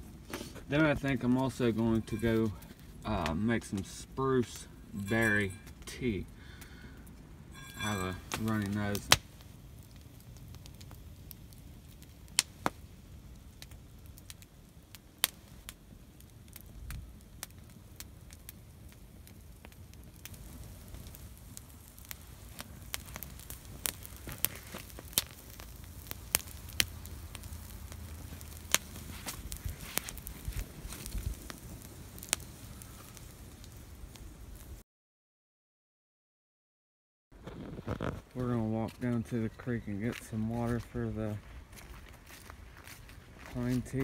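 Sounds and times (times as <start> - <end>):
campfire crackling and popping: 0.0 - 34.8, 37.4 - 44.0.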